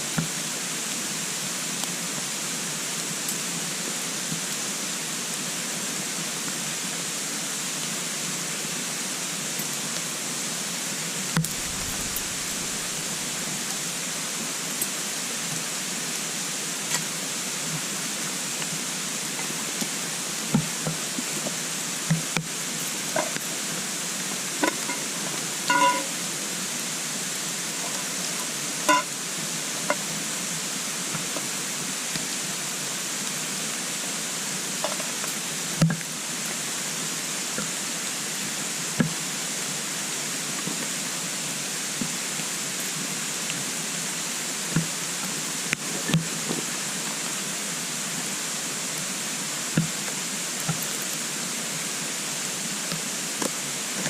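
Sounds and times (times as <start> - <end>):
wood fire crackling and hissing: 0.0 - 54.0.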